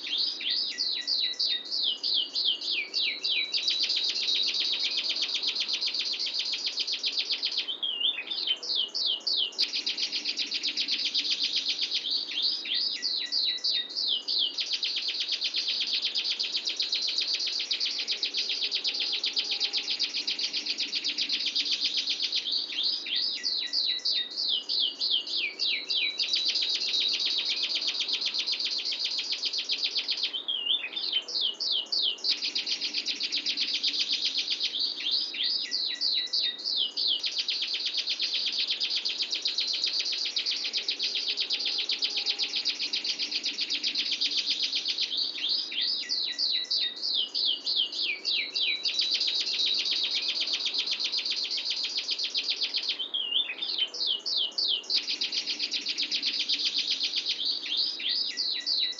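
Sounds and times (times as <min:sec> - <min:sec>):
canary singing a rolling trill: 0:00.0 - 0:58.9.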